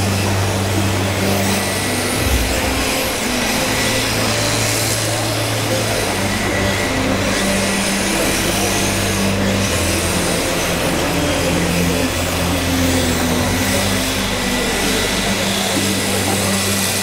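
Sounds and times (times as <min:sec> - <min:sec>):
background music with bass: 0:00.0 - 0:17.0
crowd din in a hall: 0:00.0 - 0:17.0.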